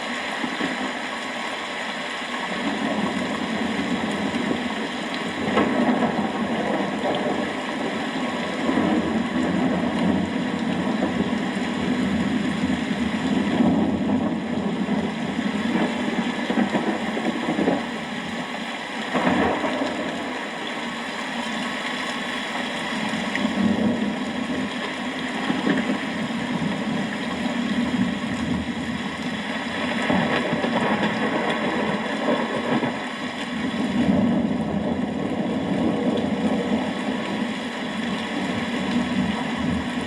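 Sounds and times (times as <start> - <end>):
rain: 0.0 - 40.0
wind: 0.0 - 40.0.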